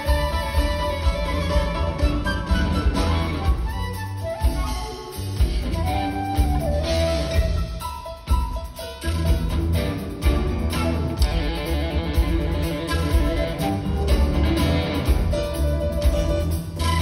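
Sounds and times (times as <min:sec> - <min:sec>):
electric guitar: 0:00.0 - 0:17.0
flute: 0:00.0 - 0:17.0
live rock band: 0:00.0 - 0:17.0.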